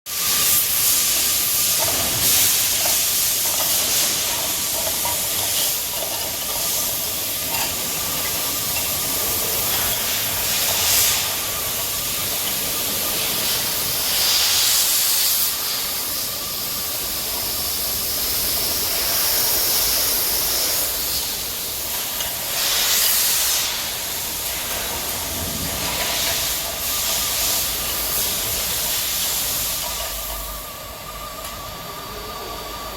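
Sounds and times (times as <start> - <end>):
water spraying hiss: 0.1 - 32.9.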